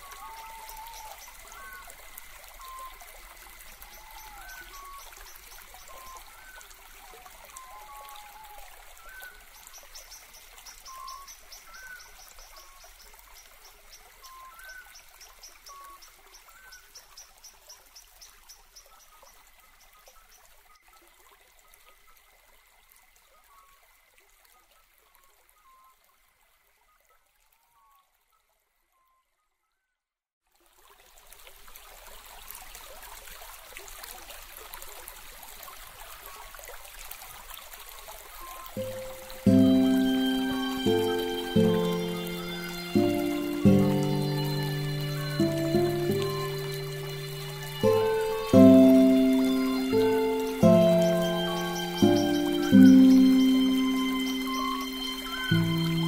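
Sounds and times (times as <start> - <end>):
trickling stream water: 0.0 - 29.0, 30.4 - 56.0.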